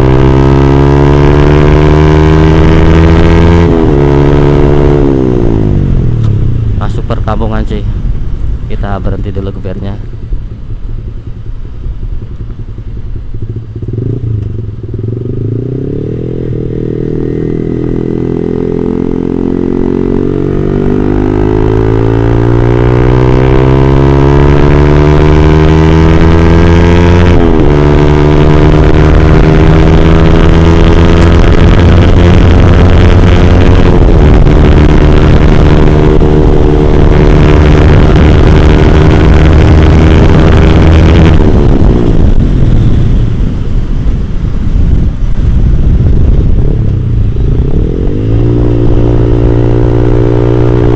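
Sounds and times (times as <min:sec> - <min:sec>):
motorcycle engine revving: 0:00.0 - 0:08.2, 0:09.2 - 0:50.9.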